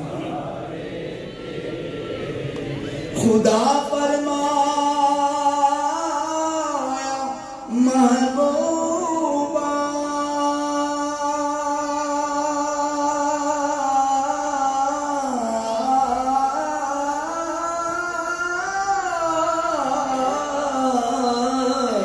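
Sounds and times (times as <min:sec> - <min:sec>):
man singing devotional song: 0:03.1 - 0:22.0.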